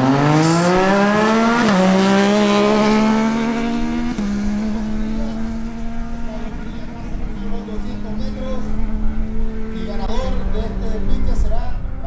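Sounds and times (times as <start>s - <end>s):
motorcycles accelerating hard: 0.0s - 12.0s.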